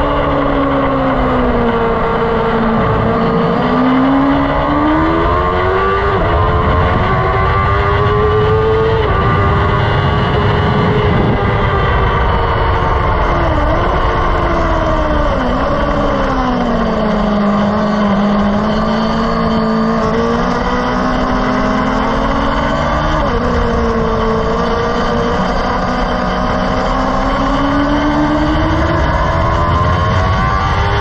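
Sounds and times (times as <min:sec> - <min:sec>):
car engine at speed: 0:00.0 - 0:31.0
constant rushing noise: 0:00.0 - 0:31.0.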